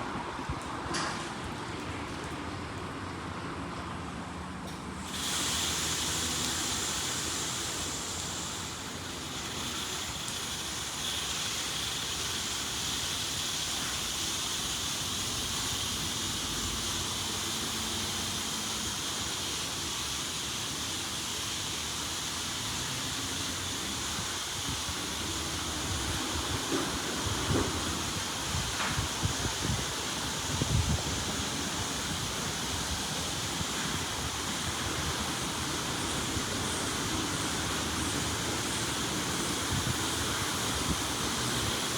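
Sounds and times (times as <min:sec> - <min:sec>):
car wash water spraying: 0:05.0 - 0:41.9.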